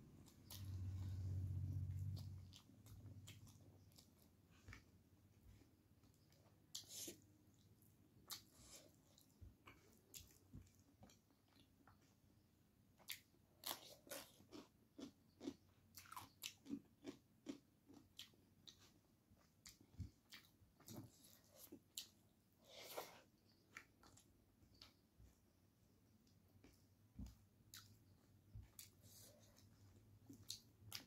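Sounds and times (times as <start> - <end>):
person chewing food: 0.1 - 31.0.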